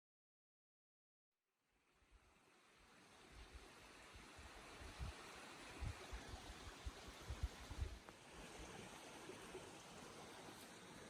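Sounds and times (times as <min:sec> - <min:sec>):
creek flowing: 0:01.8 - 0:11.0.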